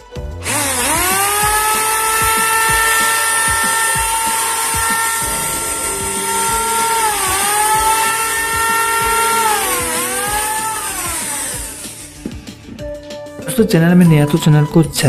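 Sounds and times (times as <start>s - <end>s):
electric planer whine: 0.0s - 12.8s.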